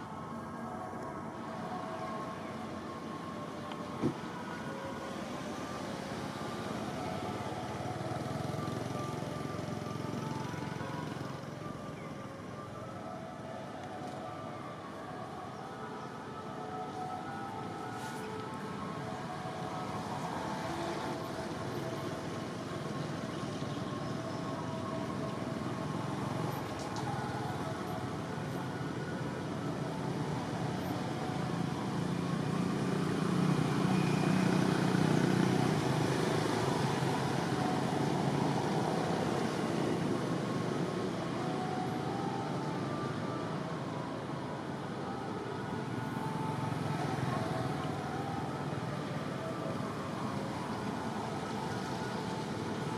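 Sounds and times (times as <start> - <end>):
distant road traffic: 0.0 - 52.9.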